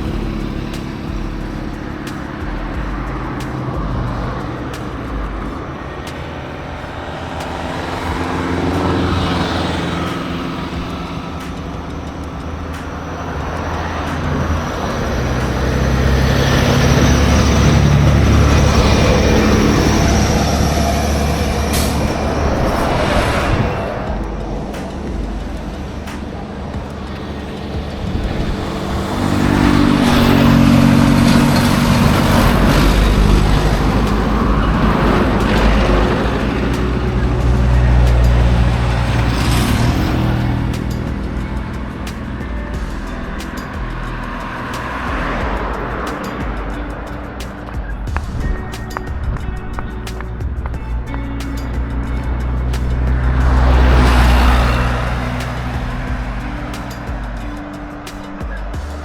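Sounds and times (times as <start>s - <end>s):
road noise: 0.0s - 59.0s
vehicles passing: 0.0s - 59.0s.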